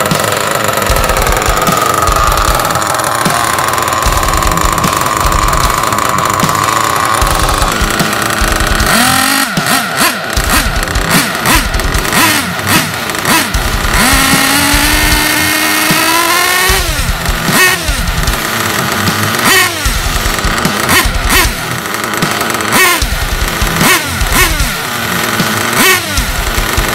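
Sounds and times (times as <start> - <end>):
model engine revving: 0.0 - 26.9.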